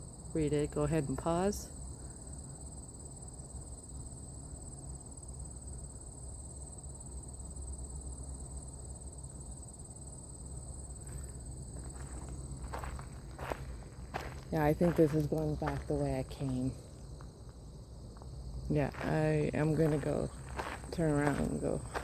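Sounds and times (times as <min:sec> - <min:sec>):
insects singing: 0:00.0 - 0:22.0.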